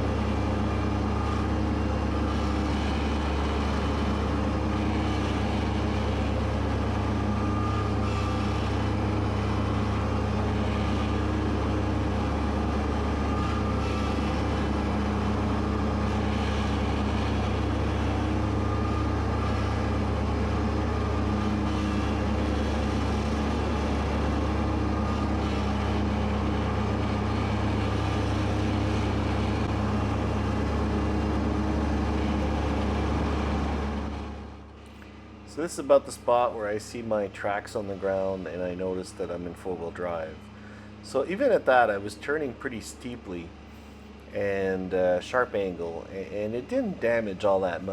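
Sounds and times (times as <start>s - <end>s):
mower cutting wet grass: 0.0s - 47.9s
tractor diesel engine running: 0.0s - 47.9s.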